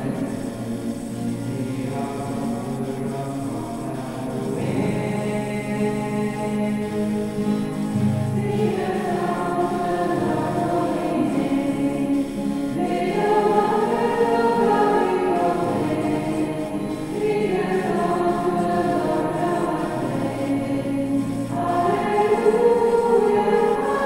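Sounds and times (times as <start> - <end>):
choir singing held chords: 0.0 - 24.0.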